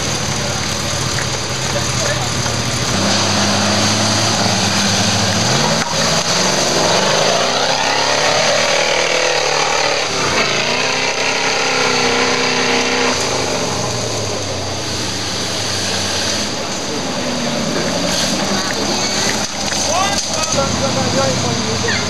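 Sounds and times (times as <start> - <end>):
wheels spinning in mud: 0.0 - 22.0
engine revving hard: 1.7 - 22.0.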